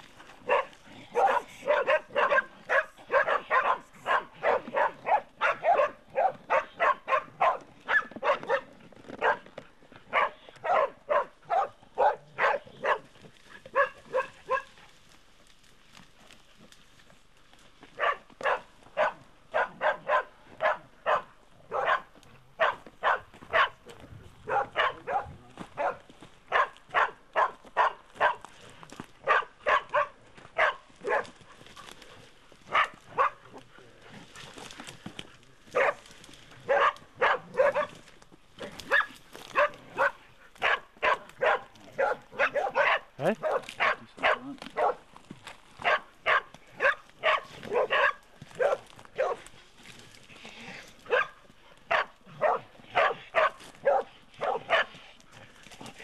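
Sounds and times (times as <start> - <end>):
dog barking: 0.4 - 14.8, 18.0 - 28.5, 29.2 - 31.9, 32.7 - 33.6, 35.6 - 38.0, 38.6 - 45.1, 45.8 - 49.5, 51.0 - 55.0.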